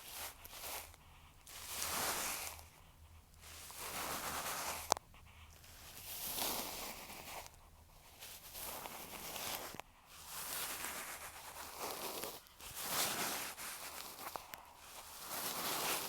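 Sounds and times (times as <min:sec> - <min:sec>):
soft brush rustling on microphone: 0:00.0 - 0:16.0.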